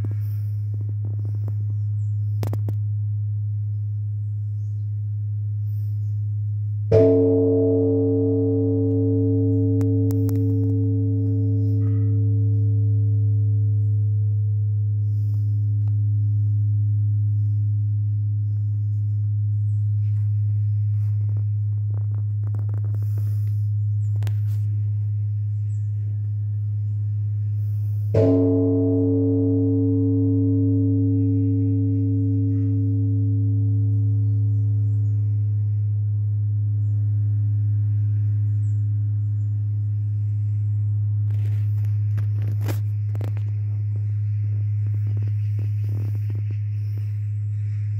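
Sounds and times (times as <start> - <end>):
large bronze bell ringing: 6.3 - 47.9.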